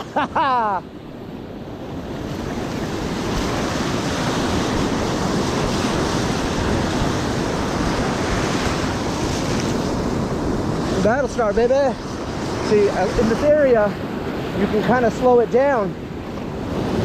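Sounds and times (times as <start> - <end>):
ocean surf breaking: 0.0 - 17.0
wind buffeting microphone: 0.9 - 17.0.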